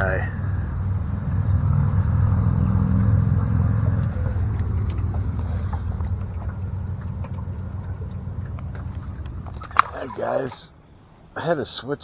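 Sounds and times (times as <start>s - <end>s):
boat motor rumbling: 0.0s - 10.7s.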